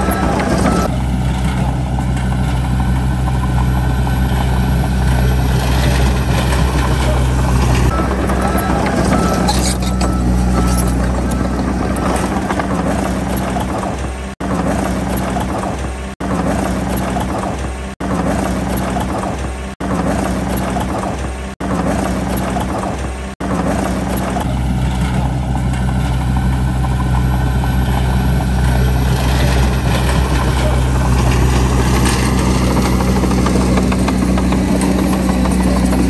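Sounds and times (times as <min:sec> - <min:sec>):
bulldozer diesel engine running: 0:00.0 - 0:36.0
clatter of bulldozer: 0:00.0 - 0:36.0.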